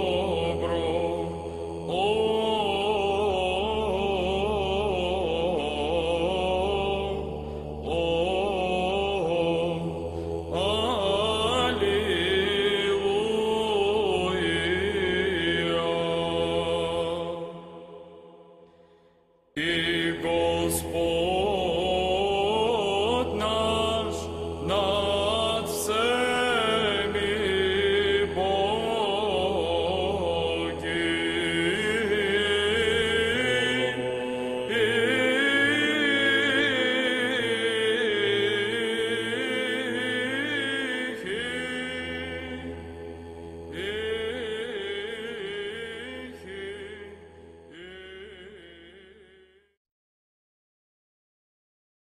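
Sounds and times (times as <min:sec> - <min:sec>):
sung chant melody: 0:00.0 - 0:49.8.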